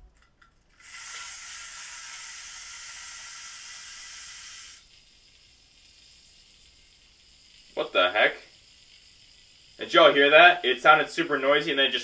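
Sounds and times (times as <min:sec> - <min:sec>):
yo-yo whirring: 0:00.8 - 0:12.0.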